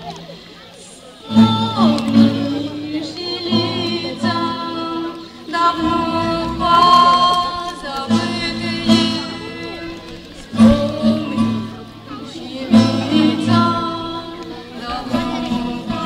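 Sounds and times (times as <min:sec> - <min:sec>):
group singing folk song: 0:01.2 - 0:16.0
strummed acoustic guitar: 0:01.2 - 0:16.0.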